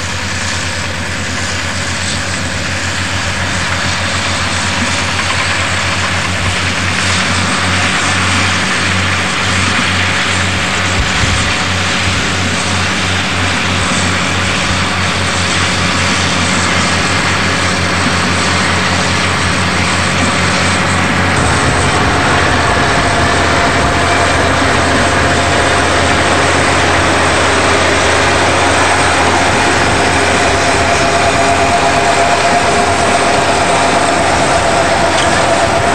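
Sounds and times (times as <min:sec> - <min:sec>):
bulldozer diesel engine drone: 0:00.0 - 0:35.9
steady whine: 0:00.0 - 0:35.9.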